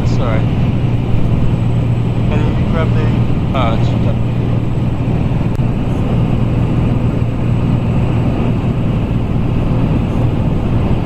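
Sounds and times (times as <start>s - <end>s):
piston aircraft engine drone: 0.0s - 11.0s.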